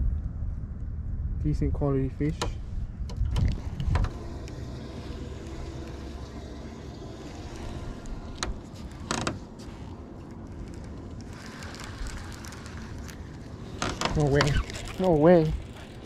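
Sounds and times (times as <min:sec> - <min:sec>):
wind and water noise: 0:00.0 - 0:16.0.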